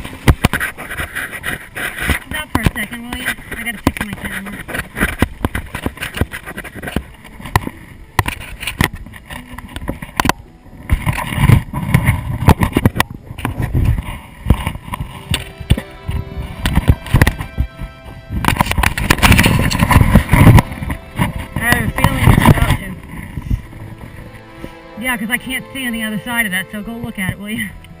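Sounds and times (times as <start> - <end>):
wind buffeting microphone: 0.0 - 26.1.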